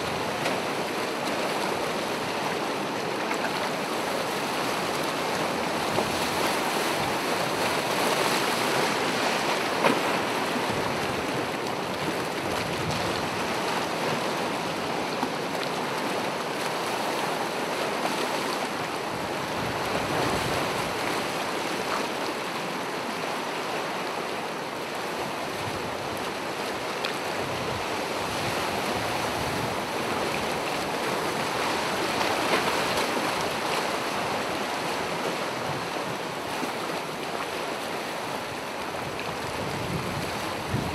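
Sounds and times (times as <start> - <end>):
ocean waves washing ashore: 0.0 - 40.9.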